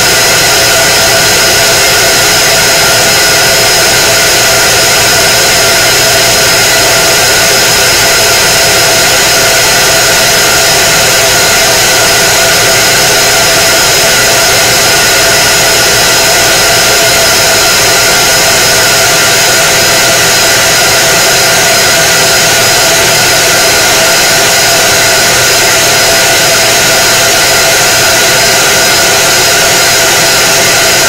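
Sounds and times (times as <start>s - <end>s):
high whines: 0.0s - 31.0s
laser cutter whirring: 0.0s - 31.0s.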